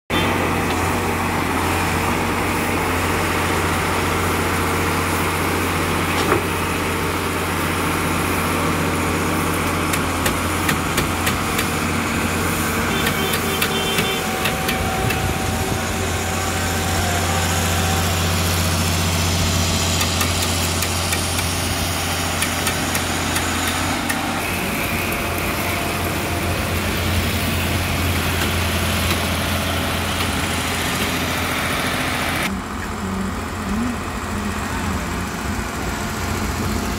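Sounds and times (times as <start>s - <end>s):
machine engine humming: 0.1s - 36.9s.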